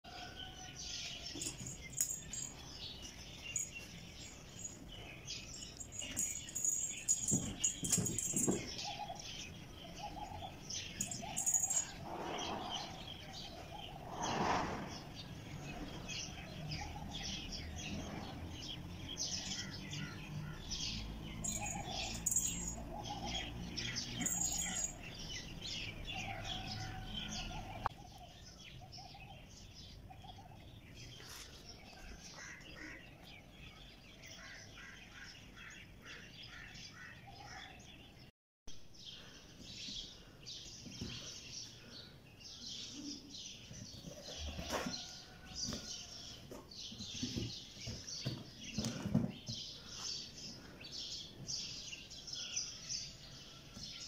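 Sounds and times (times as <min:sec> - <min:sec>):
faint outdoor ambience: 0:00.1 - 0:54.0
small birds chirping: 0:00.1 - 0:54.0.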